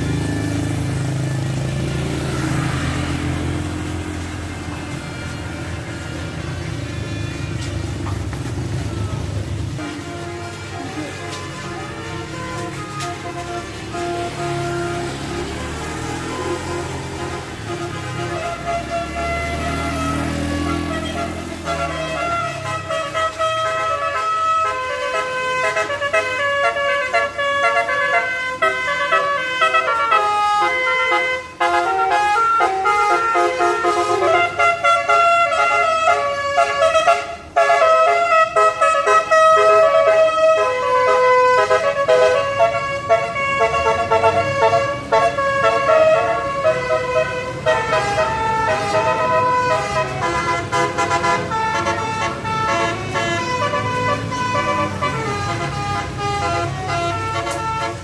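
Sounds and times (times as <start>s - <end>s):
bus engine running: 0.0s - 58.0s
bus horn playing a melody: 9.6s - 58.0s.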